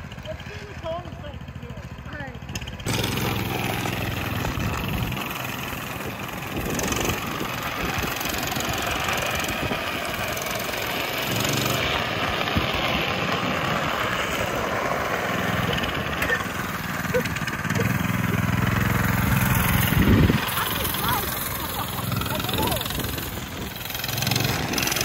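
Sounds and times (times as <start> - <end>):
small engine running: 0.0 - 25.0
wheels rolling: 0.0 - 25.0.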